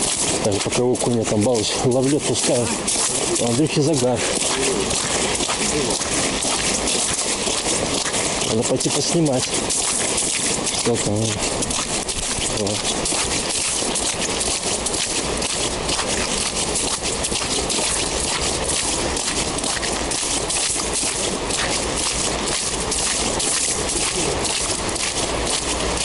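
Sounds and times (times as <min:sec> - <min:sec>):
constant hiss: 0:00.0 - 0:26.0
footsteps crunching on ice: 0:00.0 - 0:26.0.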